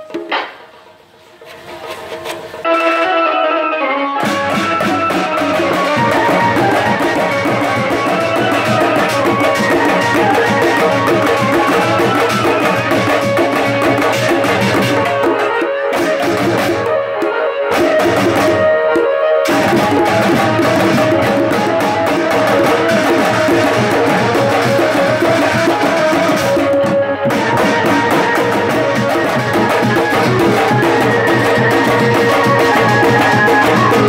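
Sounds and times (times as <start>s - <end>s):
drums beating fast: 4.2s - 17.0s, 17.7s - 18.7s, 19.5s - 34.0s.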